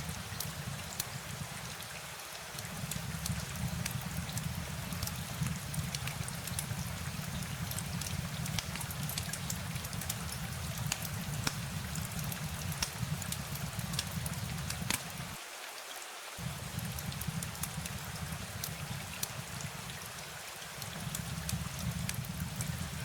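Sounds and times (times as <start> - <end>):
raindrop ticks: 0.0 - 15.4, 16.4 - 23.0
steady rain hiss: 0.0 - 23.0.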